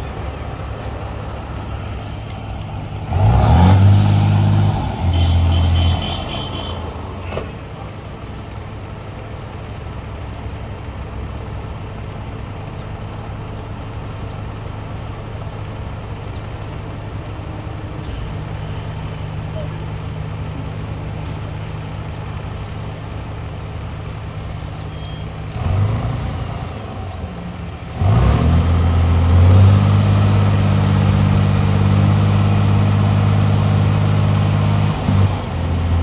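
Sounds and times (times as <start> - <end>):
diesel construction equipment running: 0.0 - 36.0.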